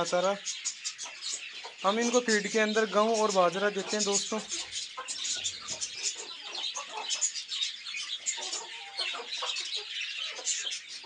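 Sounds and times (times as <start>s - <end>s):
chickens clucking: 0.0s - 11.0s
chickens pecking: 0.9s - 11.0s.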